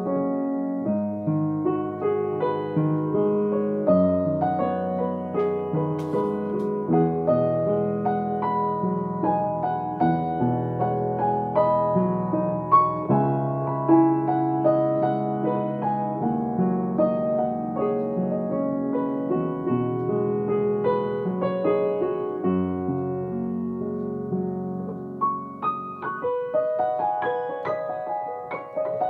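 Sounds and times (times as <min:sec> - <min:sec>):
solo piano: 0:00.0 - 0:29.0.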